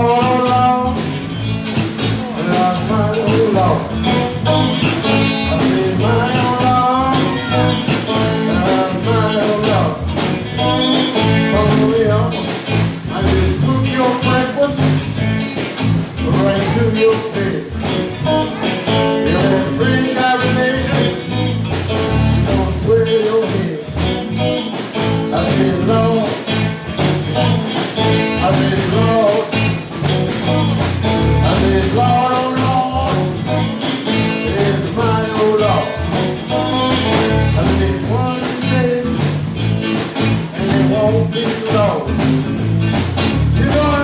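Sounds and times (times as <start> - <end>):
man singing: 0.0 - 42.4, 43.4 - 44.0
blues band playing live: 0.0 - 44.0.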